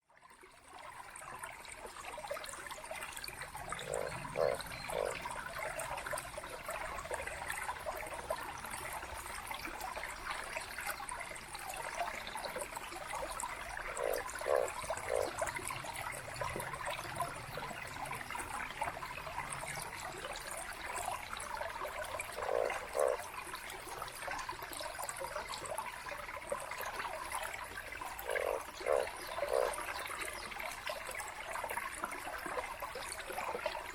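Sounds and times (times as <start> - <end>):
stream babbling over rocks: 0.6 - 33.9.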